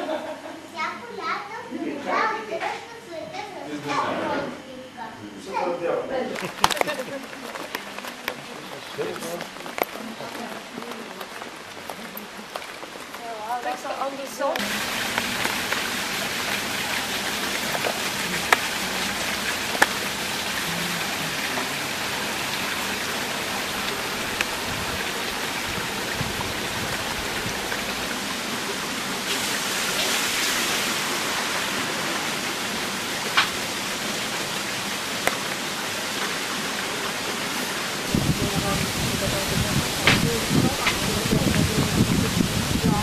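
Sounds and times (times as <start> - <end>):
steady hiss: 4.6 - 43.0.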